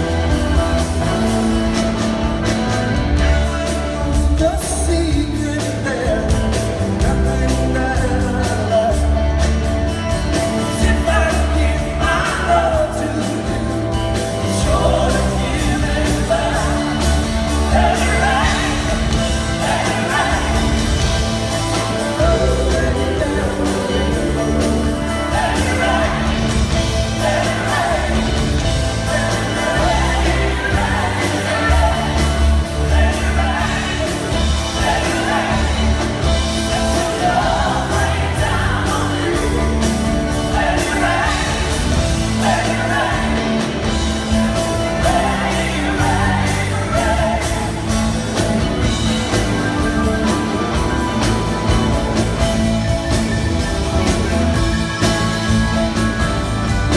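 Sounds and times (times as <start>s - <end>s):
rock band playing live: 0.0s - 56.9s
man singing: 3.2s - 9.6s, 10.5s - 51.8s.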